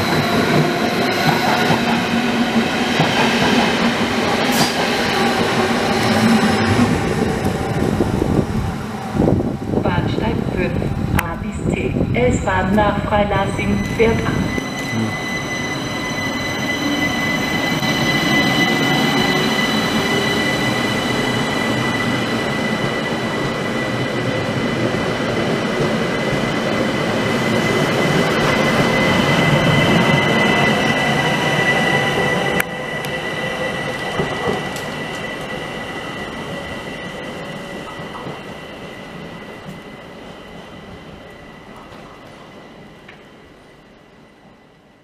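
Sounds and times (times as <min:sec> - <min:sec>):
train wheels rumbling on rails: 0:00.0 - 0:40.4
train high whine: 0:00.0 - 0:45.0.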